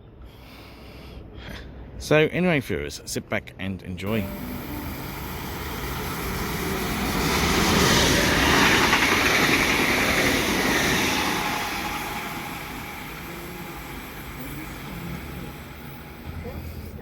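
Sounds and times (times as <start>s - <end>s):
train passing with rail noise: 0.0s - 17.0s.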